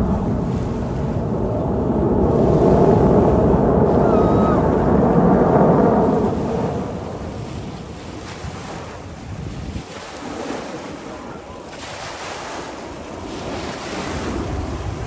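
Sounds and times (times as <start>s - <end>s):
jet roaring overhead: 0.0s - 15.0s
wind on the microphone: 0.0s - 15.0s.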